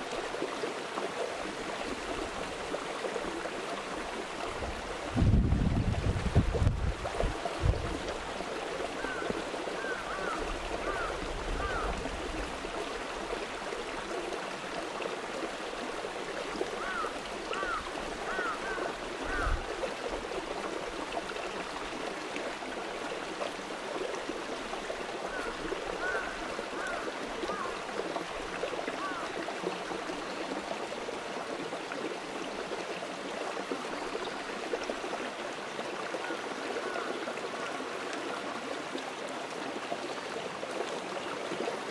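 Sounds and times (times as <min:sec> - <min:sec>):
running water: 0:00.0 - 0:41.9.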